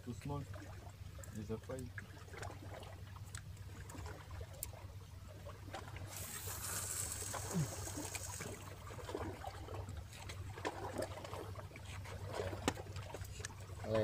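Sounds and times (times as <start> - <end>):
steady low hum: 0.0 - 14.0
water lapping among rocks: 0.3 - 14.0.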